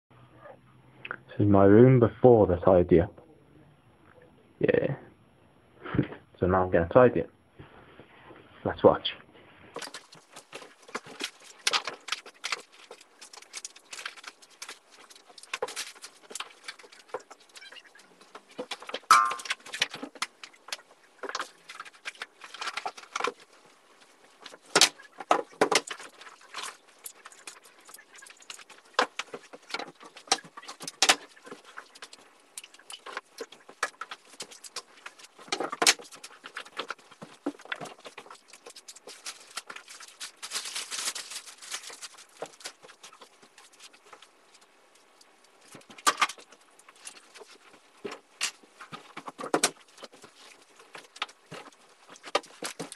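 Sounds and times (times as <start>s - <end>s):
objects clattering and knocking: 9.7s - 52.9s.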